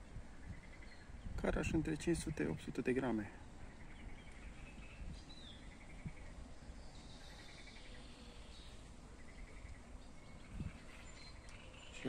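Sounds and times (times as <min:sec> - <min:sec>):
wind rumble on microphone: 0:00.0 - 0:02.8, 0:03.4 - 0:12.0
birds chirping: 0:00.0 - 0:12.0.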